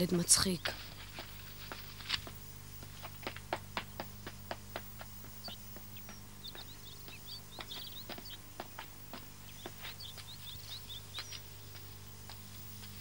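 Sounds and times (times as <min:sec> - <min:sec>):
low steady hum: 0:00.0 - 0:13.0
small birds chirping: 0:00.0 - 0:13.0
steady footsteps: 0:00.4 - 0:13.0.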